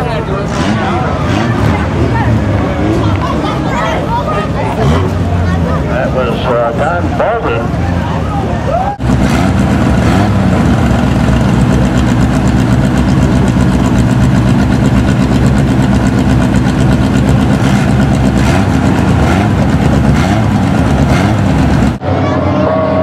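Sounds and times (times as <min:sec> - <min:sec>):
stock car engines idling: 0:00.0 - 0:22.6.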